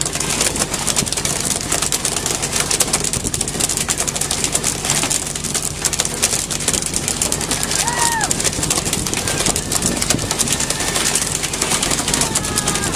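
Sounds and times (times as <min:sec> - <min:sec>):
boat engine running: 0:00.0 - 0:12.9
constant hiss with crackling: 0:00.0 - 0:12.9.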